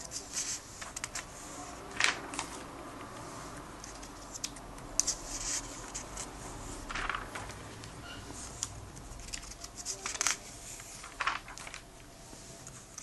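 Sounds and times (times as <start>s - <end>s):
comic book pages rustling: 0.0s - 13.0s.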